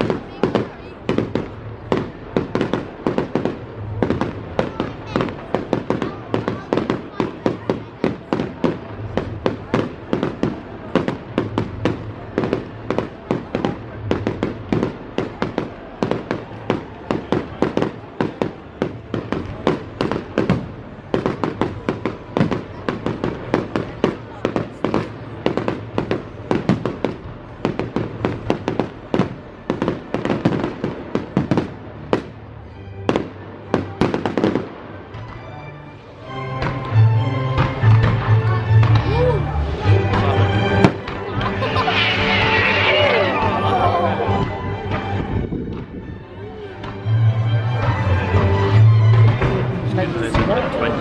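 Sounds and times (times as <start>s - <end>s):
fireworks bangs and crackles: 0.0s - 46.1s, 46.8s - 51.0s.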